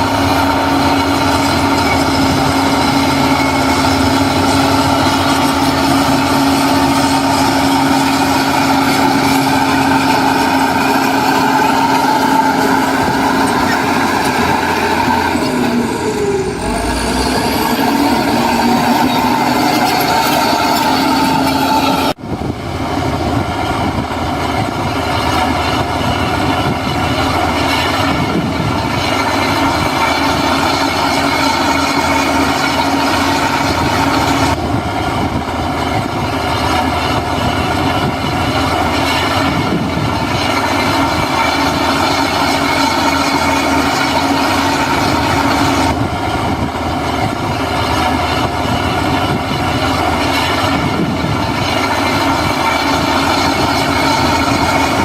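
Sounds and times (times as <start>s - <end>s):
diesel engine under load: 0.0s - 55.0s
steel tracks clattering and squealing: 0.0s - 55.0s.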